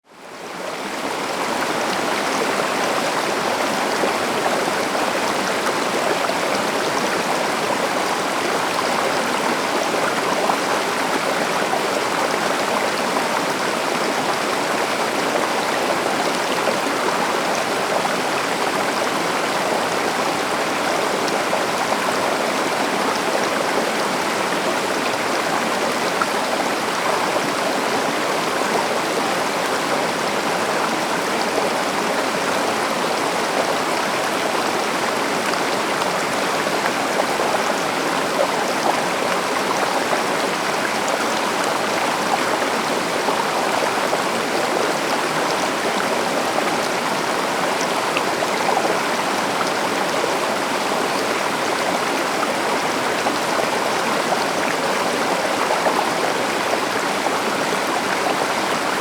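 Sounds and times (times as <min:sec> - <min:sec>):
river water flowing: 0:00.1 - 0:59.0.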